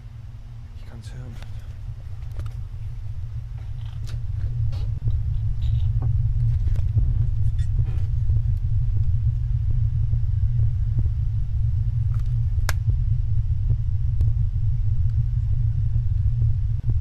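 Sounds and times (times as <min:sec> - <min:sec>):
deep droning rumble: 0:00.0 - 0:17.0.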